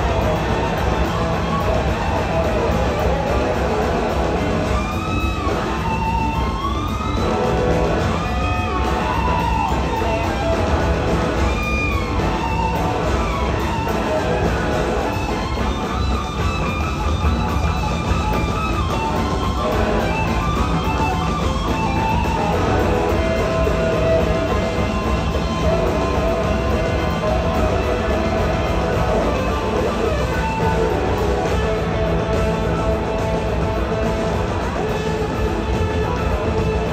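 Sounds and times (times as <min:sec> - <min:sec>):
rock band playing: 0:00.0 - 0:36.9
slide guitar swooping: 0:00.0 - 0:36.9.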